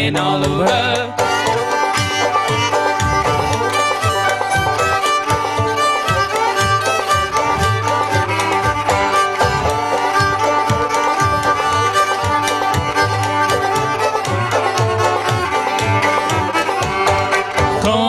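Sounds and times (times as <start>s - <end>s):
fiddle: 0.0s - 18.0s
steady bass beat: 1.5s - 18.0s.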